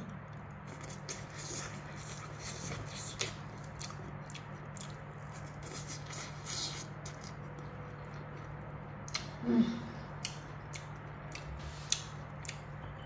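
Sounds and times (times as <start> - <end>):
eating sounds: 0.0 - 12.8
steady low hum: 0.0 - 13.0.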